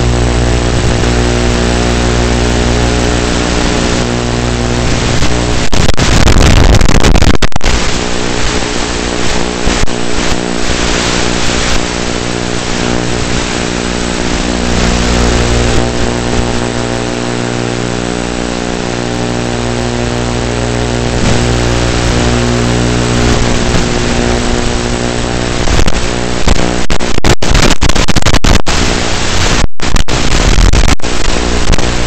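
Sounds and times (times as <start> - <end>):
loud burst of static: 0.0 - 32.0
steady buzz with hiss: 0.0 - 32.0.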